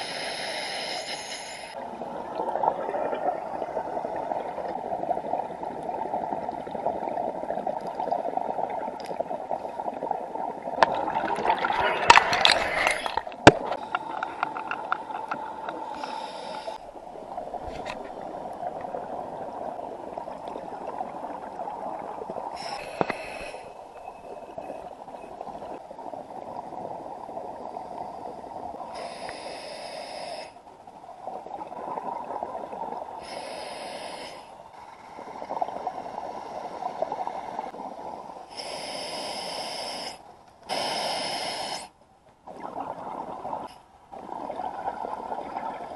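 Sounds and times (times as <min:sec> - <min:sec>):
underwater bubbling: 0:00.0 - 0:45.9.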